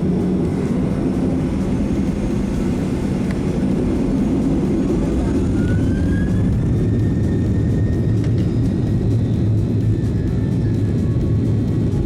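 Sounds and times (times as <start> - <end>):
jet engine rumble: 0.0 - 12.0
thin engine whine rising: 0.0 - 12.0.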